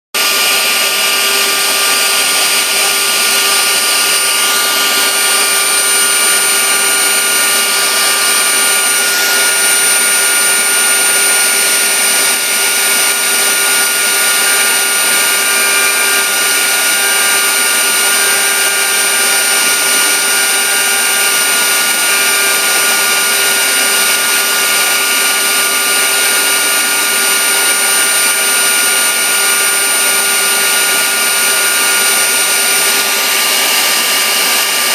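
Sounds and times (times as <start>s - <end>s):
hiss of bit cutting wood: 0.2s - 34.9s
router whining: 0.2s - 34.9s.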